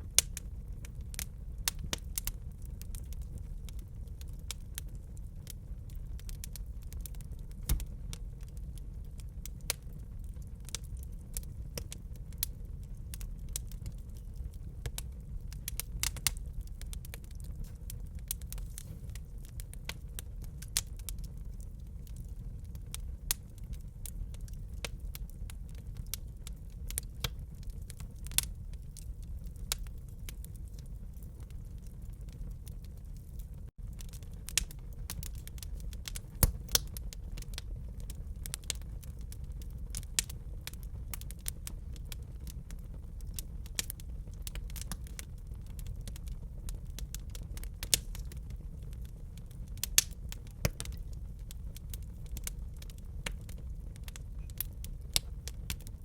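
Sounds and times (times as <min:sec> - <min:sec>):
low fire rumble: 0:00.0 - 0:56.0
wood fire crackling: 0:00.0 - 0:56.0.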